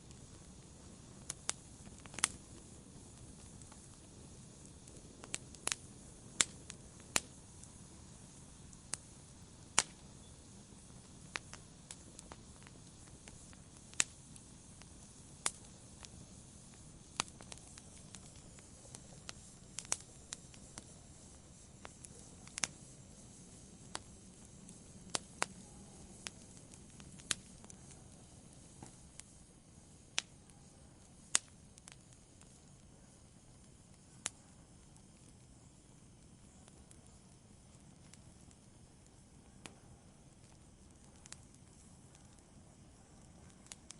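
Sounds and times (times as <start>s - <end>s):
campfire pops and snaps: 0.0s - 43.9s
soft hiss of burning fire: 0.0s - 43.9s.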